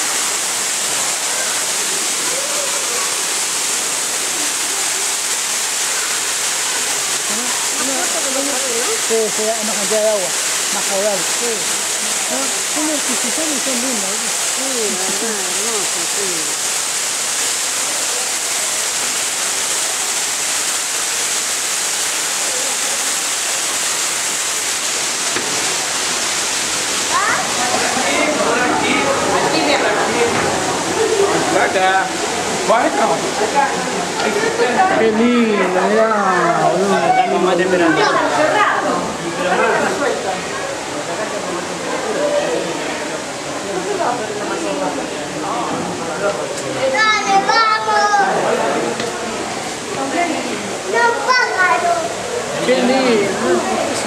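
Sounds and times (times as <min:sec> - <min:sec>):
waterfall pouring into pool: 0:00.0 - 0:54.0.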